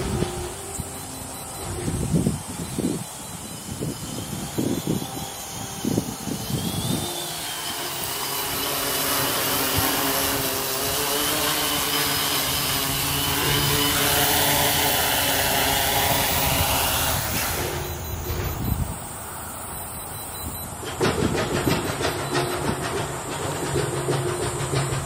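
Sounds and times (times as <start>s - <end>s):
drone motors humming with high whine: 0.0s - 25.0s.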